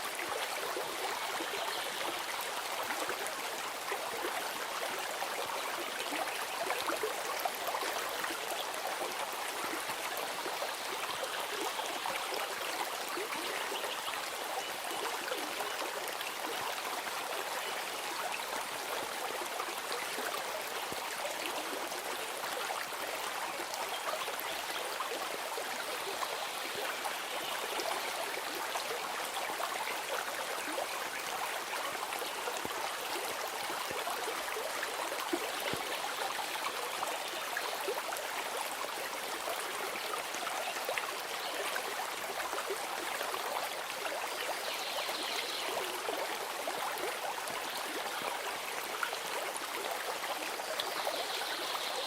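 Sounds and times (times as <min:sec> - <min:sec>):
stream water running: 0:00.0 - 0:52.0.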